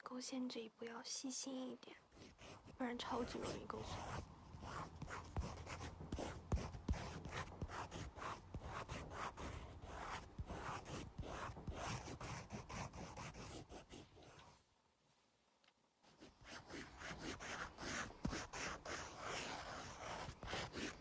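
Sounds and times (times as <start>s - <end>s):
pen scratching on paper: 2.1s - 14.4s, 16.1s - 21.0s.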